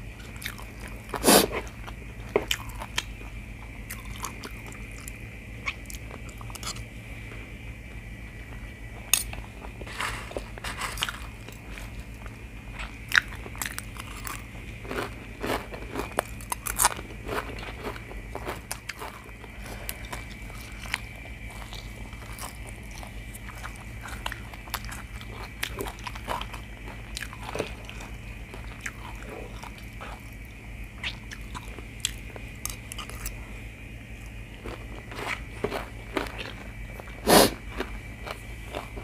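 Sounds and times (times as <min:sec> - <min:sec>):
chewing and crunching food: 0:00.0 - 0:39.0.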